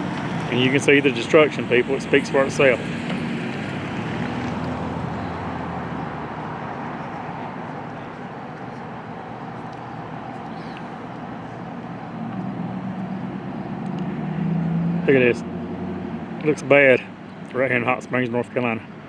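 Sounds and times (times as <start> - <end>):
low traffic hum: 0.0 - 19.0
passing vehicle engine and tyres: 0.0 - 19.0.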